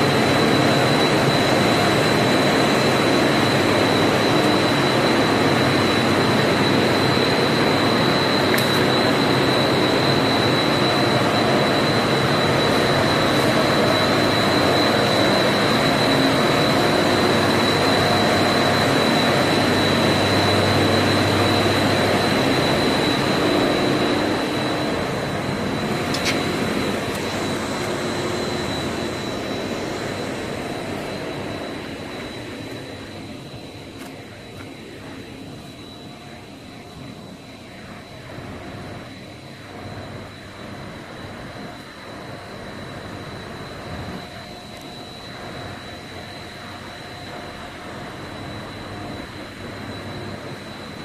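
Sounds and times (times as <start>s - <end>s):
machinery drone with high whine: 0.0s - 51.0s.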